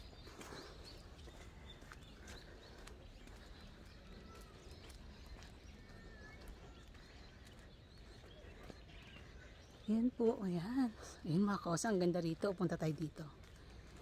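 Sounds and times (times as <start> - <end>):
footsteps on stone path: 0.0 - 14.0.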